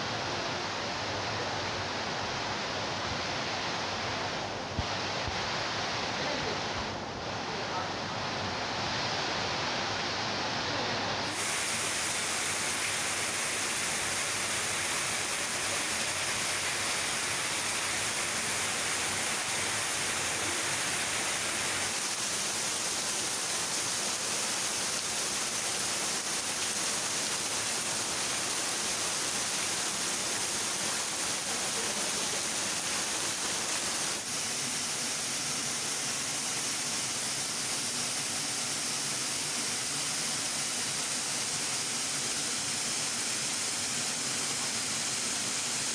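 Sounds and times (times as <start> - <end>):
water rushing in a rocky creek: 0.0 - 45.9.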